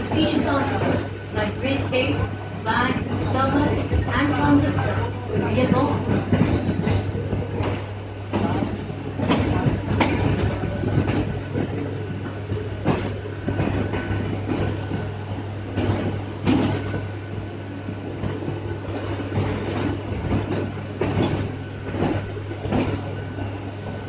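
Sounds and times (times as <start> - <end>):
electric train hum: 0.0 - 24.0
wheels clacking on rails: 0.0 - 24.0.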